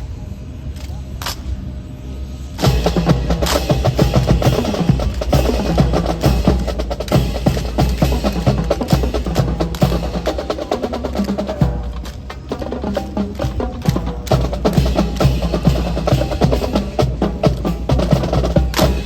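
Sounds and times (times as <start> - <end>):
percussion-heavy music: 2.6 - 19.0.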